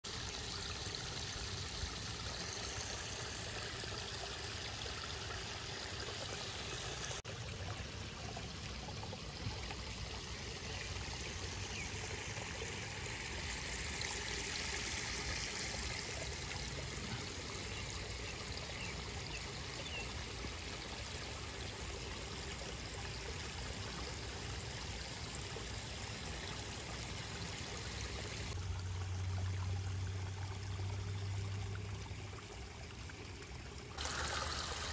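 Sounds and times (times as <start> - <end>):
water trickling over rocks: 0.0 - 34.9.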